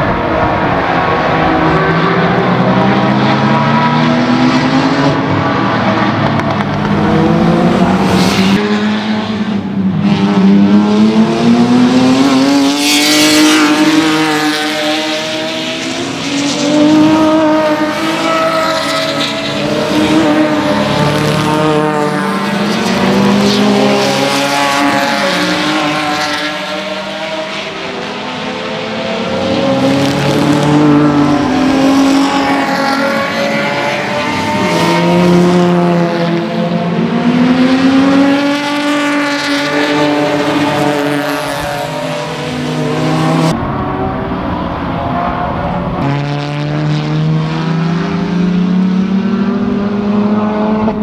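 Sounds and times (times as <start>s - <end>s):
race car engines accelerating: 0.0s - 51.0s.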